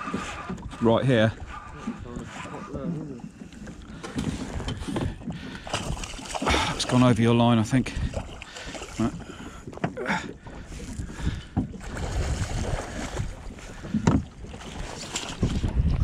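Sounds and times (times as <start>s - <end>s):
water slapping a boat: 0.0s - 16.0s
wind buffeting microphone: 0.0s - 16.0s.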